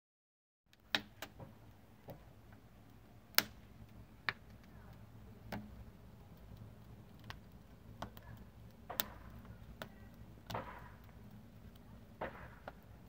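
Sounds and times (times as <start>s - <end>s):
wood fire crackling and popping: 0.7s - 13.0s.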